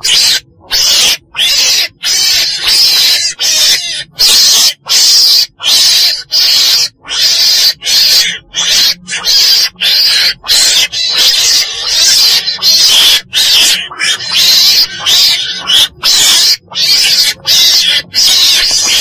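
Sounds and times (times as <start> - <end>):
weasel harsh cries: 0.0 - 19.0.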